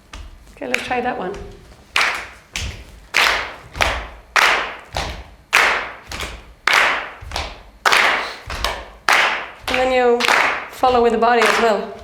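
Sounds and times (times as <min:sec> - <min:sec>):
body percussion rhythm: 0:00.0 - 0:12.0.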